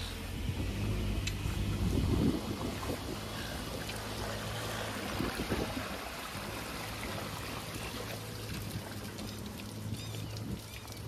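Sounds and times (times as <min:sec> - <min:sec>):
faint low engine hum: 0:00.0 - 0:11.0
water streaming off boat: 0:00.0 - 0:11.0.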